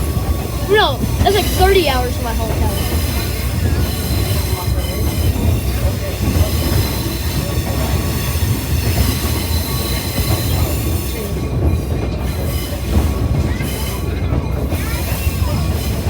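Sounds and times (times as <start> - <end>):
railcar rumbling along track: 0.0 - 16.0.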